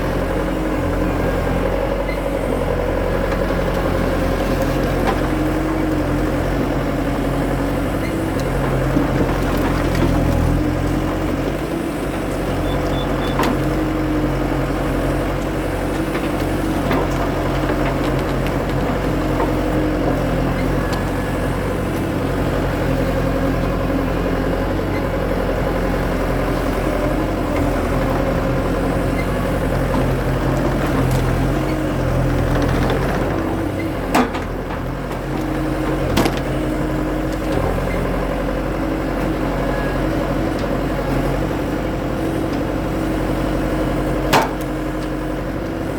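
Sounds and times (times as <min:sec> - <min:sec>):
skid steer engine running: 0:00.0 - 0:45.9.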